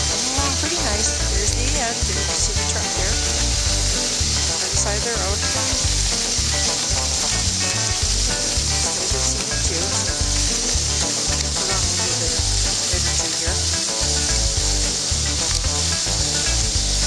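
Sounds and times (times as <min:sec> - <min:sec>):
sled runners hissing over snow: 0:00.0 - 0:17.0.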